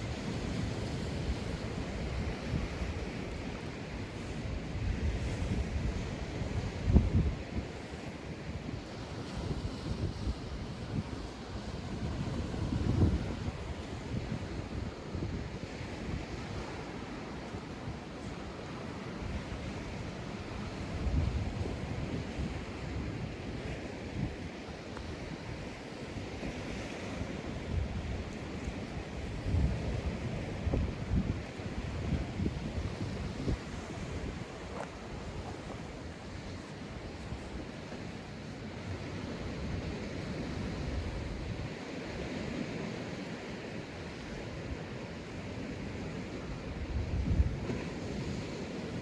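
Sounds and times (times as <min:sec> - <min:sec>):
wind buffeting microphone: 0:00.0 - 0:43.3, 0:45.6 - 0:49.0
waves washing onto sandy beach: 0:00.0 - 0:49.0.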